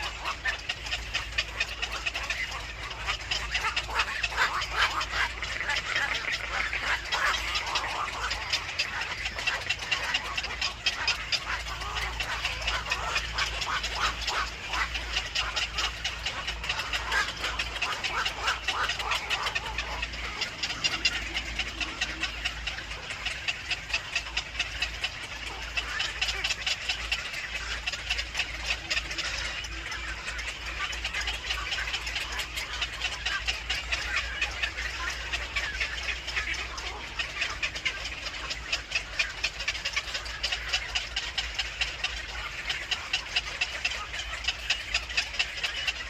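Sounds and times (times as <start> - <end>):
chicks chirping: 0.0 - 46.0
steady low hum: 0.0 - 46.0.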